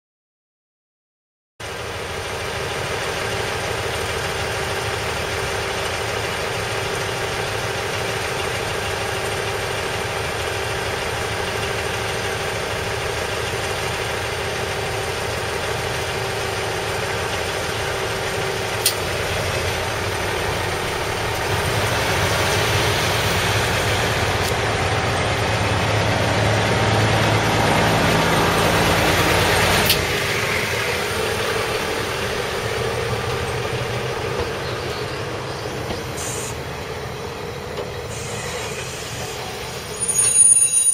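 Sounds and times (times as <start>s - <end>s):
diesel engine idling: 1.6s - 40.1s.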